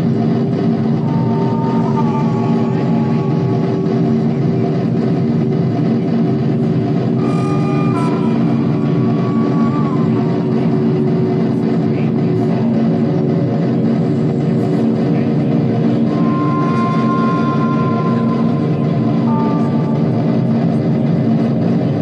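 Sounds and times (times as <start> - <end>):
dense droning noise music: 0.0 - 22.0
high sliding tone: 0.7 - 13.6, 14.9 - 21.1.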